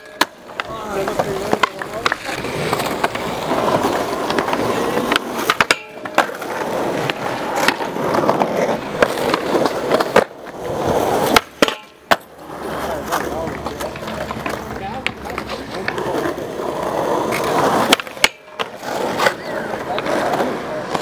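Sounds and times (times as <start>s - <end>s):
skateboard clacking on ground: 0.0s - 21.0s
skateboard wheels rolling on concrete: 0.0s - 21.0s.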